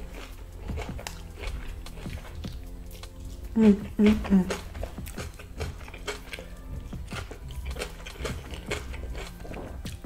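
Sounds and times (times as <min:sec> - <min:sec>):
crunching fried chicken crust: 0:00.0 - 0:10.0
wet chewing: 0:00.0 - 0:10.0.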